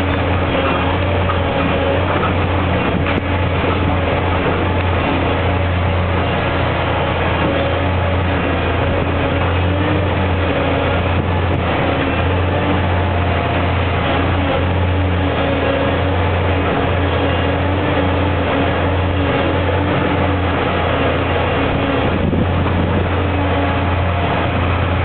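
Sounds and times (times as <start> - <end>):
diesel excavator engine running: 0.0 - 25.0.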